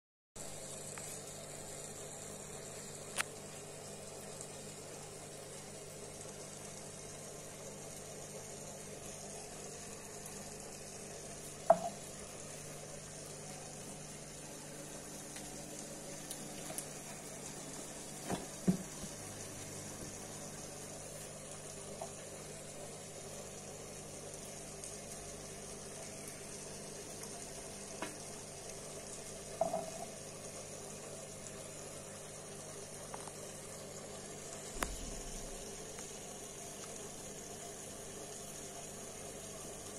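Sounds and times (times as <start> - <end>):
aquarium filter bubbling: 0.4 - 39.9.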